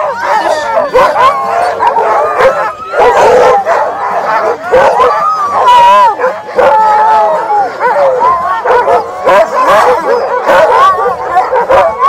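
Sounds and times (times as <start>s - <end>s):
sled dogs barking and howling: 0.0s - 12.0s.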